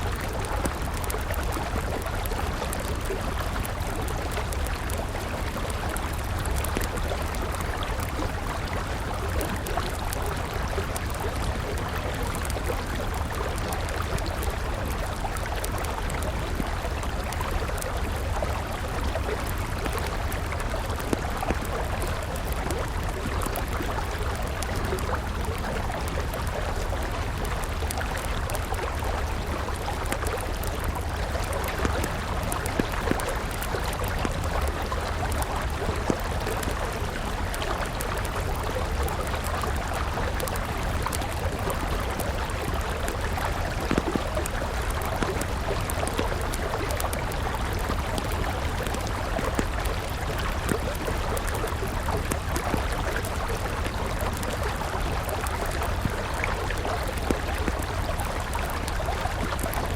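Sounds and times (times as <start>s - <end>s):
campfire crackling: 0.0s - 59.9s
river water flowing: 0.0s - 59.9s.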